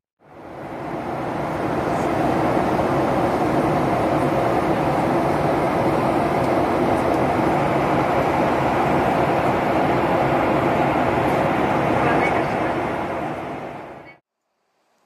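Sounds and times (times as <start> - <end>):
airliner engines and airflow in cabin: 0.2 - 14.2.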